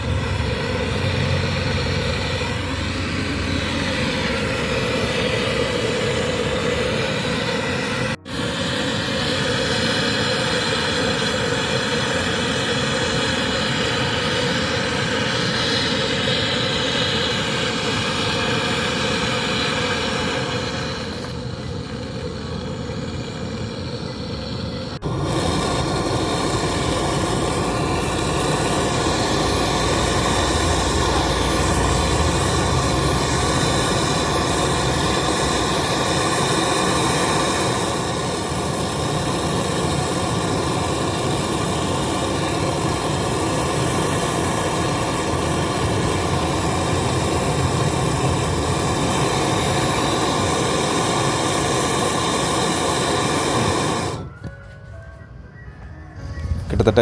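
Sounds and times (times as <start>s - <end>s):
gas torch hissing: 0.0s - 54.5s.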